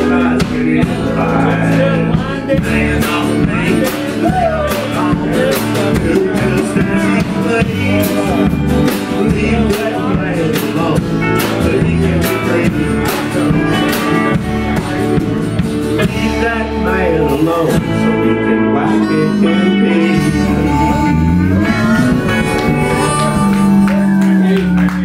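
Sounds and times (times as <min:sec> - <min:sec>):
drum kit beat: 0:00.0 - 0:18.3, 0:20.2 - 0:25.0
acoustic guitar: 0:00.0 - 0:25.0
electric bass: 0:00.0 - 0:25.0
pedal steel guitar: 0:00.0 - 0:25.0.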